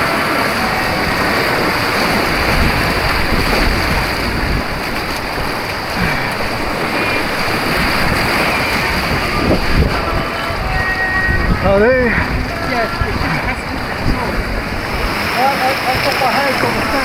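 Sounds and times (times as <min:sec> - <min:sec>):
roar of churning white water: 0:00.0 - 0:17.0.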